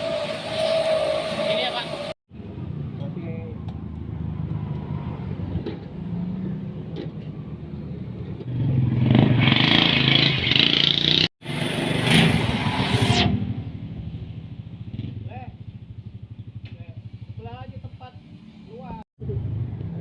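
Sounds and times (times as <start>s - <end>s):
motorcycle engine idling and revving: 1.5s - 20.0s.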